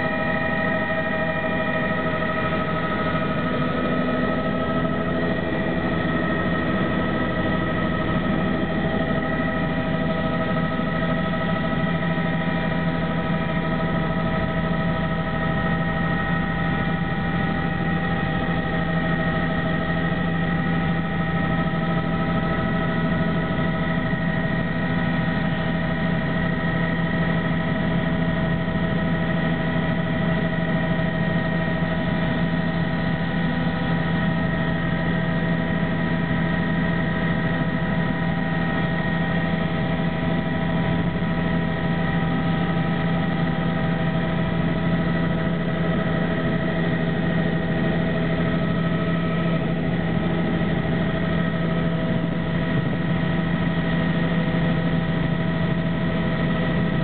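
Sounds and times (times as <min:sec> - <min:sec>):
constant whining tones: 0:00.0 - 0:57.0
helicopter engine and rotor drone: 0:00.0 - 0:57.0.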